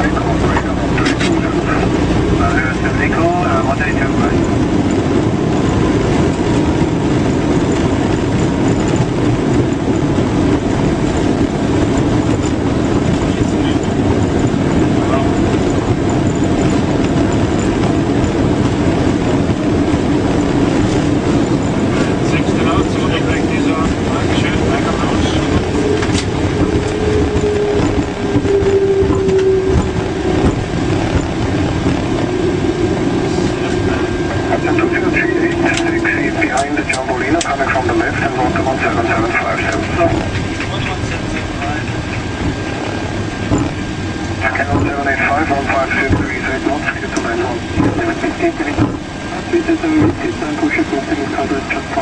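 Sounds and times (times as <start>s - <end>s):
jet engines rumbling: 0.0s - 52.0s
wheels rumbling on runway: 0.0s - 52.0s.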